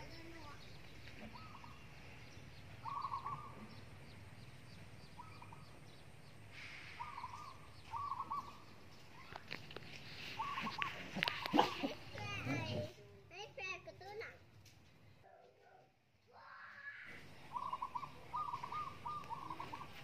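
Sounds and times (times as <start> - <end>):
birds calling: 0.0 - 13.8, 14.6 - 20.0.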